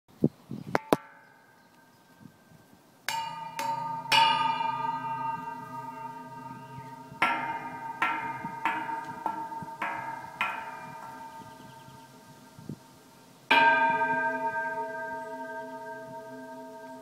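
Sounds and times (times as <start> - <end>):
metal railings ringing when struck: 0.8 - 1.8, 3.1 - 12.9, 13.5 - 17.0.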